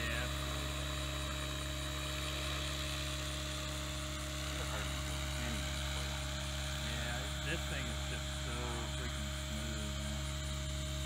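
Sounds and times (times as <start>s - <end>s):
rc helicopter rotor whine: 0.0s - 11.0s.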